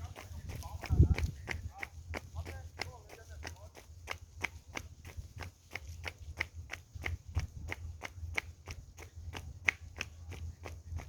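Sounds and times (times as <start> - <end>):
footsteps walking briskly: 0.0 - 11.0
steady low rumble: 0.0 - 11.0.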